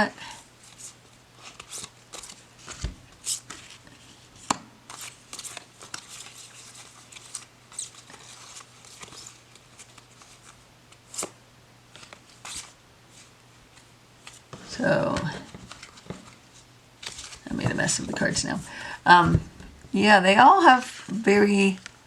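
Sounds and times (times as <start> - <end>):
cards clicking and rustling: 0.7 - 18.4.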